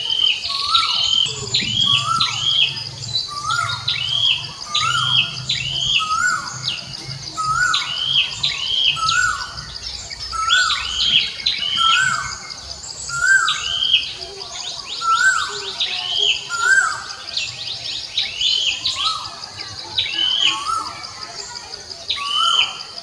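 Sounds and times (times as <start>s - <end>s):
birds calling downward slides: 0.5s - 21.1s.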